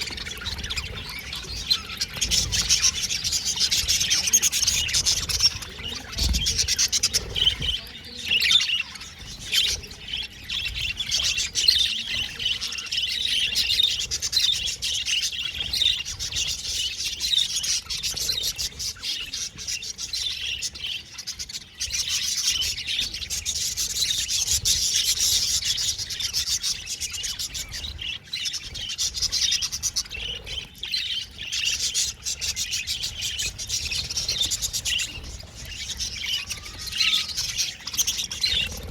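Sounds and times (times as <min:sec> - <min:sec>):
budgerigars chirping and warbling: 0:00.0 - 0:38.9.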